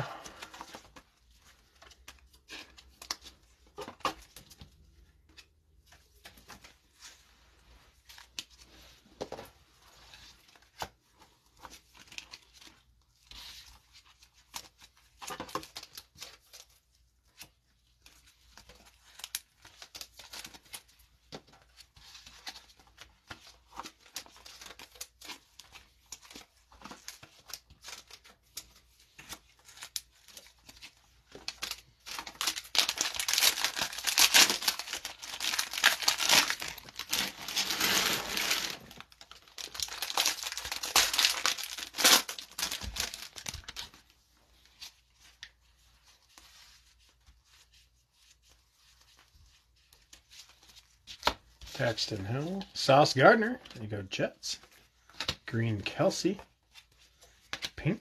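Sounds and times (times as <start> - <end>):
plastic sleeves and wrappers crinkling: 0.0 - 58.0.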